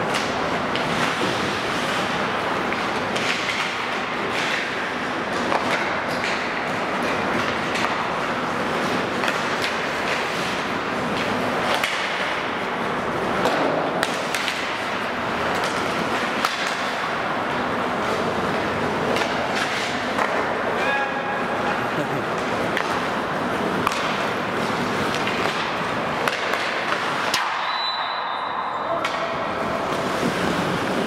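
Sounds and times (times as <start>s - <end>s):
hockey sticks and puck clacking: 0.0s - 31.0s
skate blades scraping ice: 0.1s - 20.6s, 21.5s - 28.1s, 28.9s - 31.0s.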